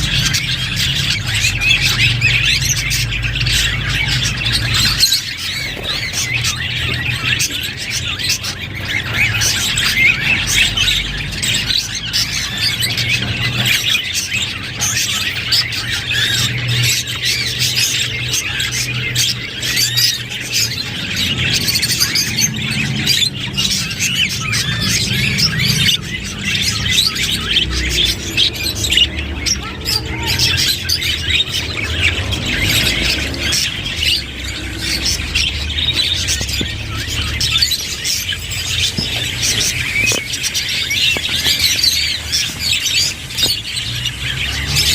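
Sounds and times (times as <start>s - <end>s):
budgerigars chattering and warbling: 0.0s - 44.9s.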